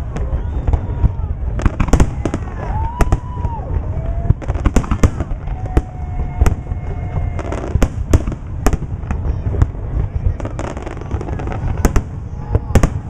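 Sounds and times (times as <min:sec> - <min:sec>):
fireworks bangs: 0:00.0 - 0:13.0
low rumble and crackle: 0:00.0 - 0:13.0.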